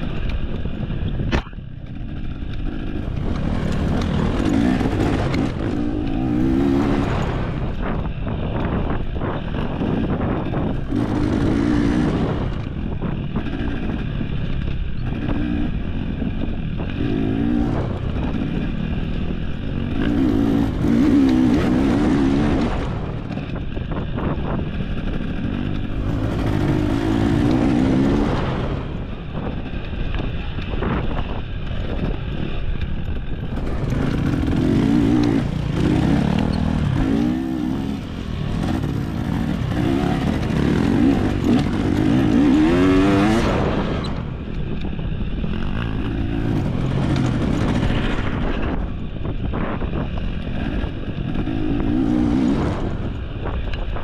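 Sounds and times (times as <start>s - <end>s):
dirt bike engine revving: 1.8s - 32.6s, 33.3s - 53.4s.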